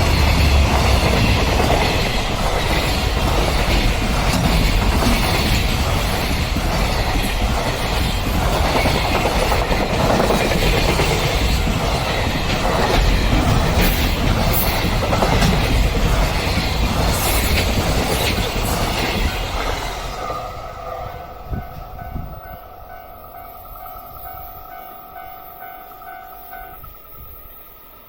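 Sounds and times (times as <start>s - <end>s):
train wheels running over rails: 0.0s - 27.5s.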